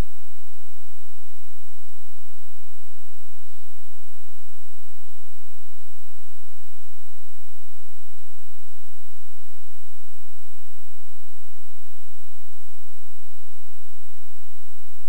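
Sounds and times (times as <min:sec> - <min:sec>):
electrical hum and hiss: 0:00.0 - 0:15.0
thin high whine: 0:00.0 - 0:15.0.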